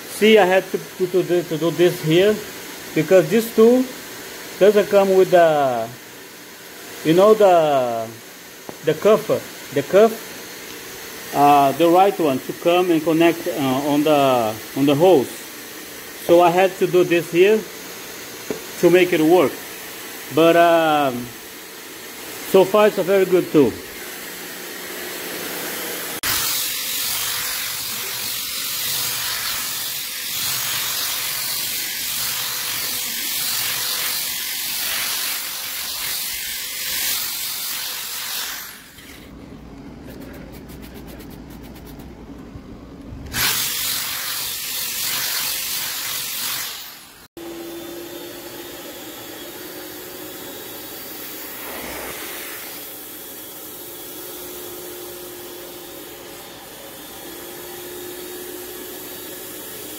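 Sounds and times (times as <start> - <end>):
carpet extractor vacuum suction: 0.0 - 39.4, 43.2 - 59.9.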